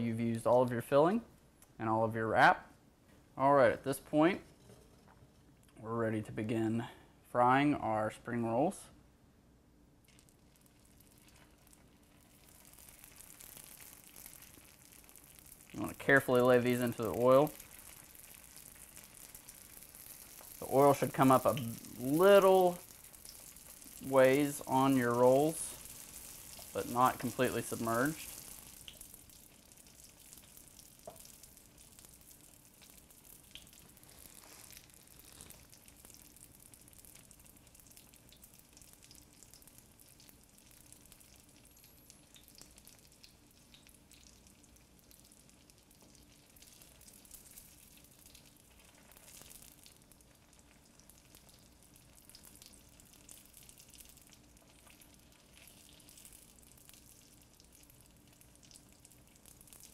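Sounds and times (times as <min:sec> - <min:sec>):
spring rolls sizzling in oil: 0:10.1 - 0:59.9.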